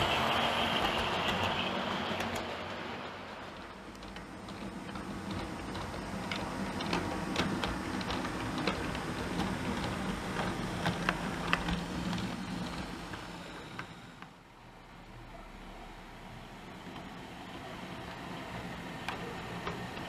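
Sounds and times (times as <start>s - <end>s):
model train low hum: 0.0s - 20.0s.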